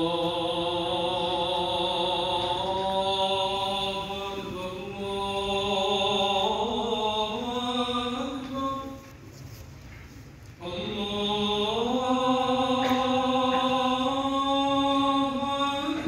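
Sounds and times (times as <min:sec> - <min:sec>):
man chanting recitation: 0:00.0 - 0:09.1, 0:10.6 - 0:16.0.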